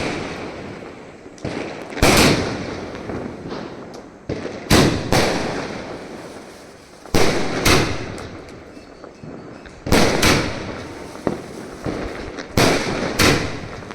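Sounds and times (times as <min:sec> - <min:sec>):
firework bangs with echoing rumble: 0:00.0 - 0:13.9
small firework cracks: 0:00.0 - 0:13.9.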